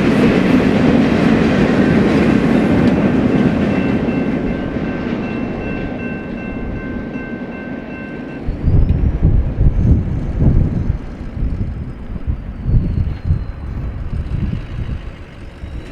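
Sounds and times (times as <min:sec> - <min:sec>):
freight train wheels rumbling and clacking: 0:00.0 - 0:15.9
wind buffeting microphone: 0:00.0 - 0:15.9.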